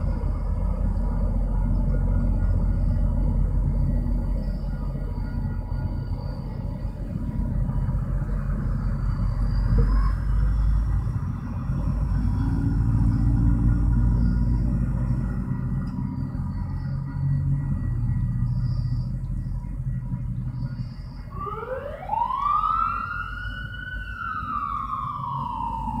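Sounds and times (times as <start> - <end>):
train rumbling: 0.0 - 21.4.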